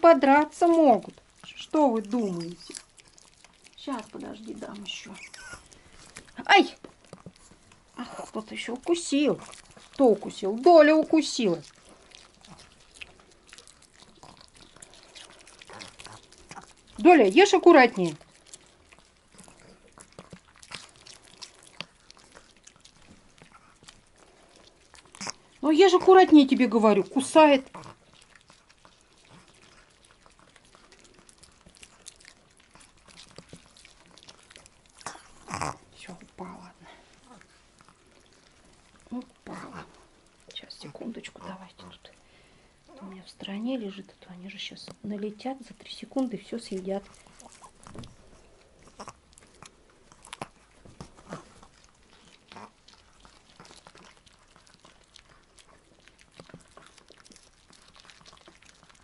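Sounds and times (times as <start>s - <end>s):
dogs chewing crunchy food: 0.0s - 59.0s.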